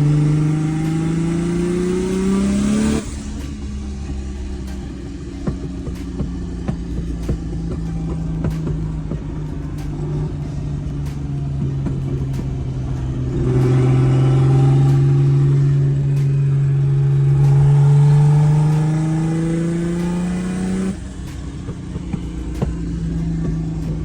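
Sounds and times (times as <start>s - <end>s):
car engine revving under load: 0.0s - 24.0s.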